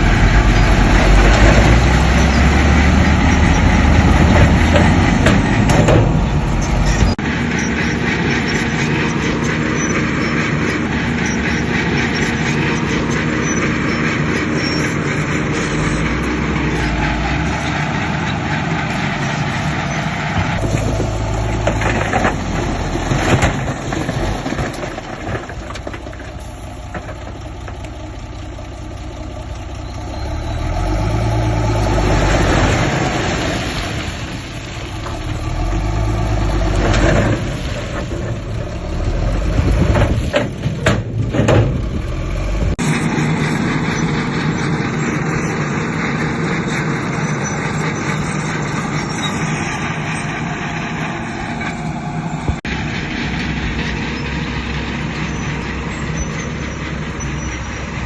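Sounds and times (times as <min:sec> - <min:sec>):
heavy diesel engines working: 0:00.0 - 0:58.0.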